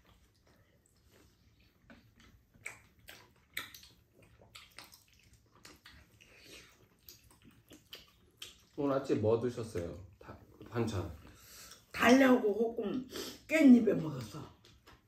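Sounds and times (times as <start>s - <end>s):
wet chewing and mouth smacks: 0.0s - 11.9s, 14.0s - 15.0s.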